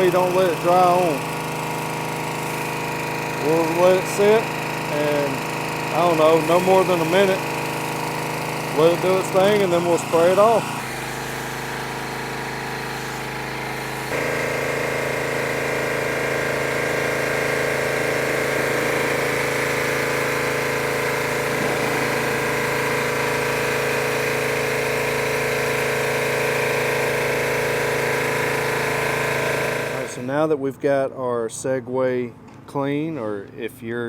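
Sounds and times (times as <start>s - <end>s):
pressure washer running: 0.0s - 30.6s.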